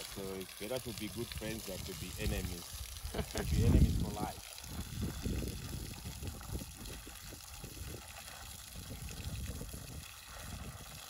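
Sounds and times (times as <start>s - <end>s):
hose water splashing: 0.0s - 11.0s.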